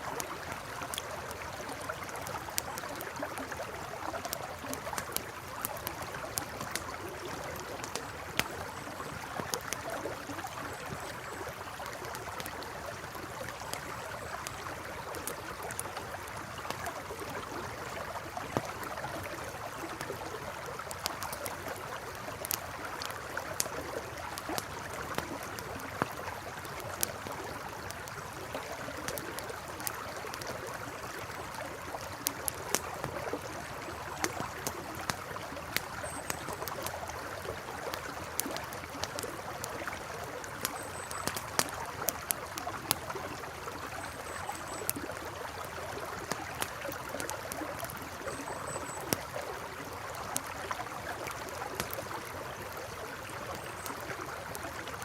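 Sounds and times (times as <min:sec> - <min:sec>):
campfire crackling and popping: 0:00.0 - 0:55.0
river water flowing: 0:00.0 - 0:55.0.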